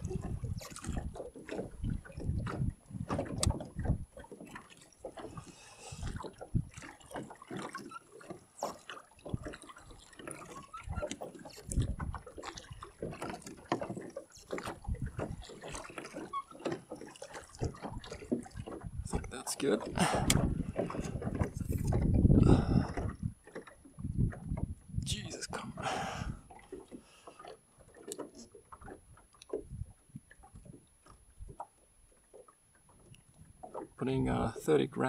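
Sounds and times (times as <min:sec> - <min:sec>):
oars dipping and splashing: 0:00.0 - 0:35.0
water sloshing against hull: 0:00.0 - 0:35.0.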